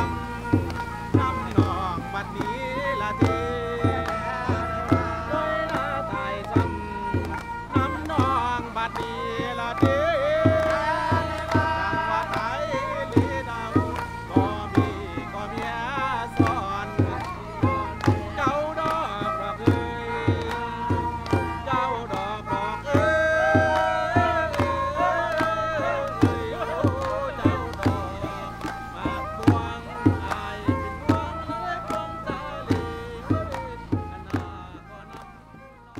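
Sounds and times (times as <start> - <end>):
steady drum beat: 0.0 - 35.0.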